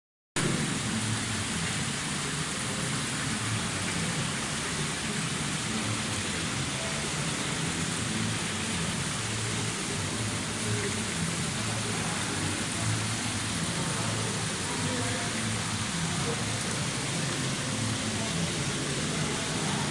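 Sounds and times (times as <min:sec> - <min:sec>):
fountain water splashing: 0:00.4 - 0:19.9.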